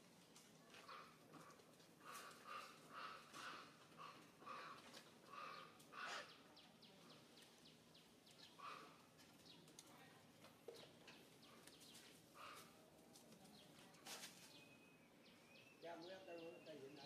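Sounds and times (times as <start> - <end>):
small birds chirping: 0.8 - 17.0.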